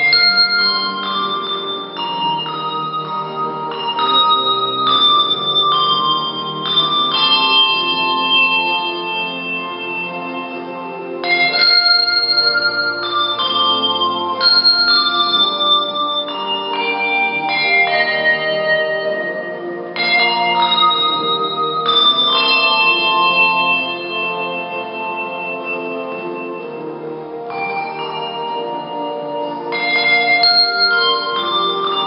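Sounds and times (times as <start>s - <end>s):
handbells playing slow melody: 0.0s - 32.0s.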